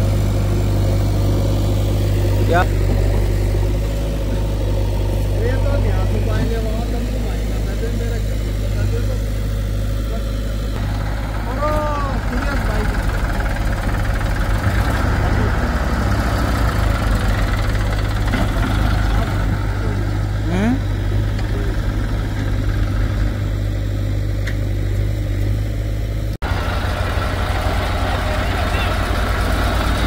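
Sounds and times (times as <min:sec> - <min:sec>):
diesel engines idling low: 0:00.0 - 0:30.0.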